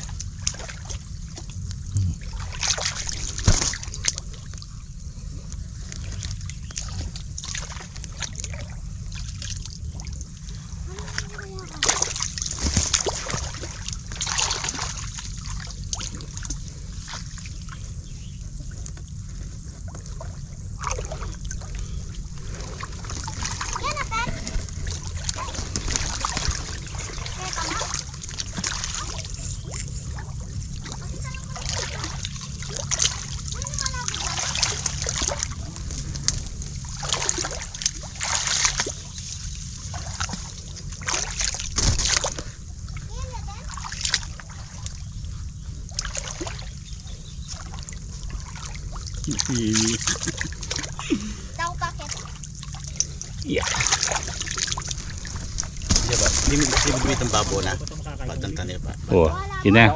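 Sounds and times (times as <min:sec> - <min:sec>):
muddy water sloshing and splashing: 0:00.0 - 0:59.9
steady low rumble: 0:00.0 - 0:59.9.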